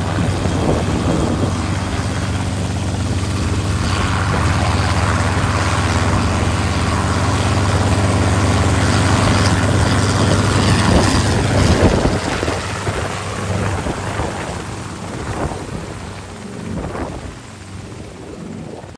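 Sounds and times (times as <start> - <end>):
helicopter hovering: 0.0 - 18.9.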